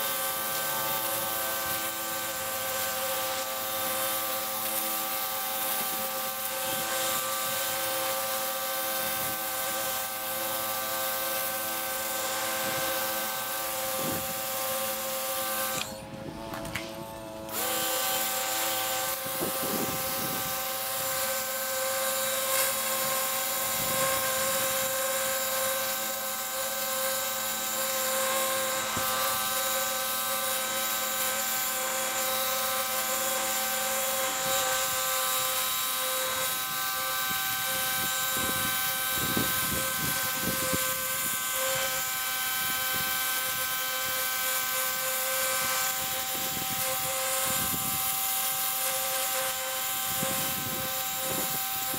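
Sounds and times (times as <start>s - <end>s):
pressure washer whine: 0.0s - 51.9s.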